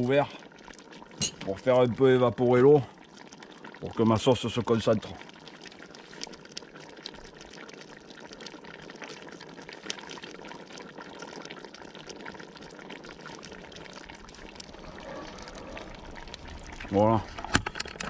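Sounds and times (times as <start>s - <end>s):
sauce bubbling in a pot: 0.0s - 18.0s.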